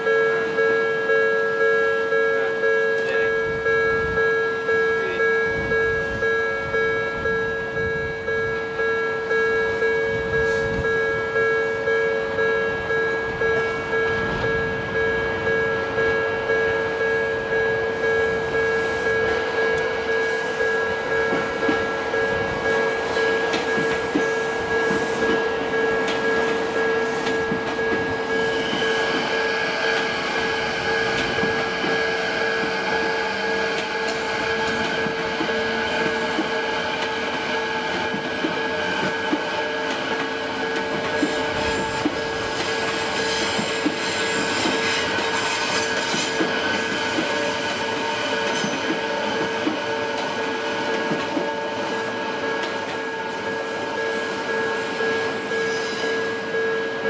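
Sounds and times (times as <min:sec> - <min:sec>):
level-crossing bell ringing: 0:00.0 - 0:57.0
train passing: 0:00.0 - 0:57.0.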